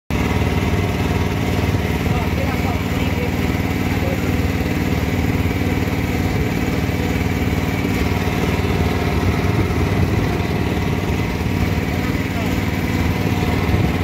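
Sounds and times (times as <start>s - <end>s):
small outboard motor running: 0.1s - 14.0s.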